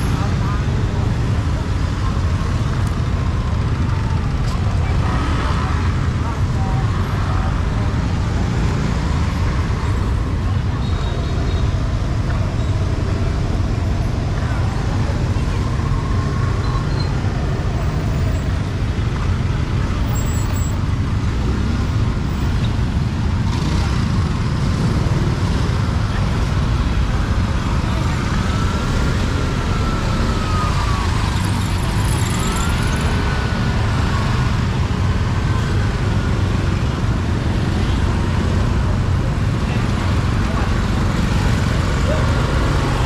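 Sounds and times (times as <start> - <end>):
scooter and traffic rumble: 0.0 - 43.0.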